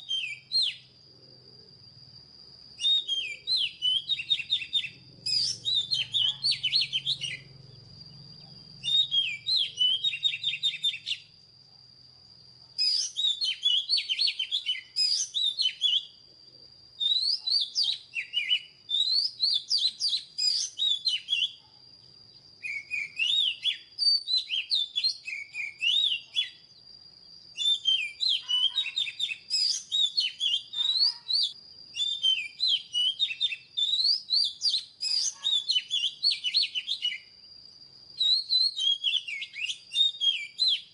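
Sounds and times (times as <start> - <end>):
bird singing whistled phrases: 0.0 - 1.0, 2.8 - 11.3, 12.8 - 16.2, 17.0 - 21.6, 22.6 - 26.8, 27.5 - 37.4, 38.2 - 40.9.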